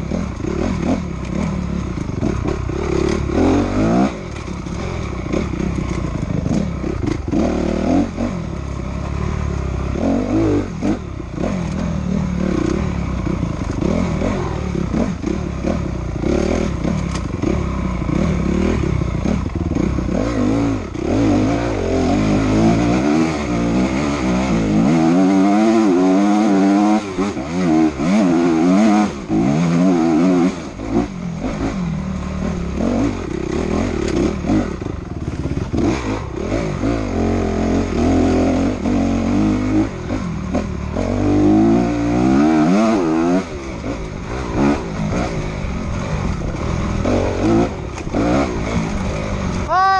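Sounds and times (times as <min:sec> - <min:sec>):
motorcycle clattering over bumps: 0:00.0 - 0:10.0, 0:10.8 - 0:21.2, 0:25.7 - 0:49.7
motorcycle engine revving: 0:00.0 - 0:49.9.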